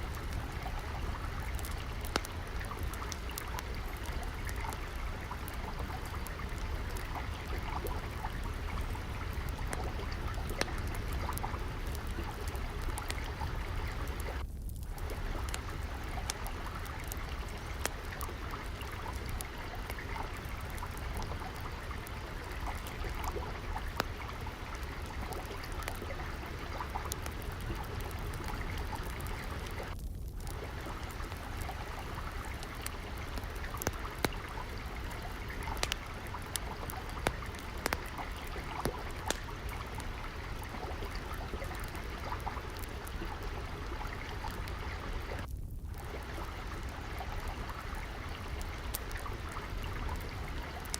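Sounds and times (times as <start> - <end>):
stream water trickling: 0.0 - 50.9
wood fire crackling and popping: 0.0 - 50.9.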